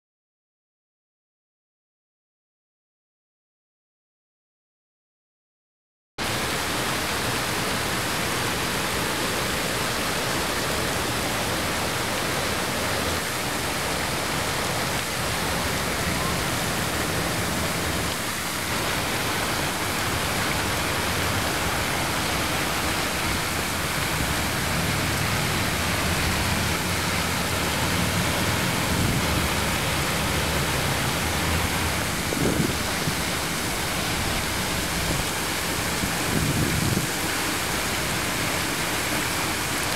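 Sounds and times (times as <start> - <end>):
fountain water splashing: 6.2 - 39.9.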